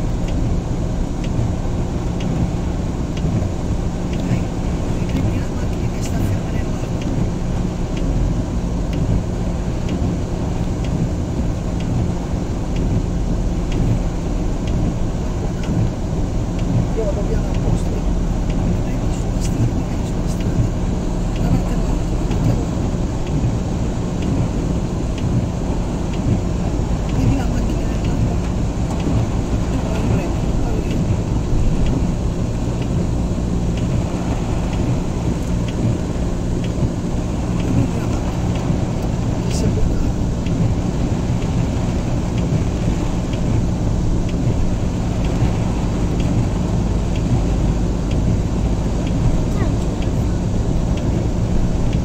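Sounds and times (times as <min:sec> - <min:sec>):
car driving through water: 0:00.0 - 0:52.0
heavy rain on a car: 0:00.0 - 0:52.0
raindrops ticking: 0:00.0 - 0:52.0.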